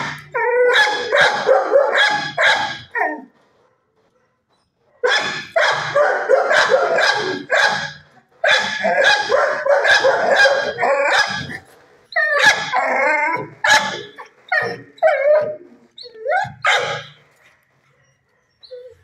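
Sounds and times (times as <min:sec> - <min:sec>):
dogs barking: 0:00.0 - 0:15.6, 0:16.2 - 0:17.2.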